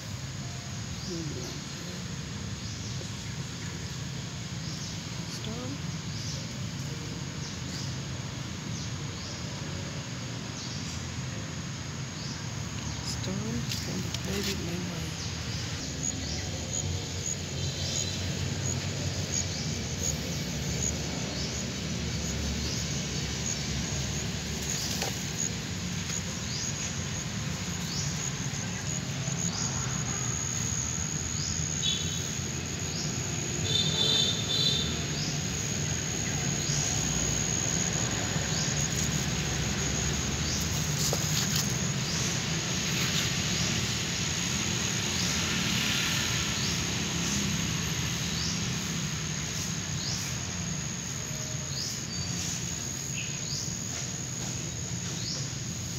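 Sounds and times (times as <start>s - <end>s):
high-pitched insect drone: 0.0s - 55.9s.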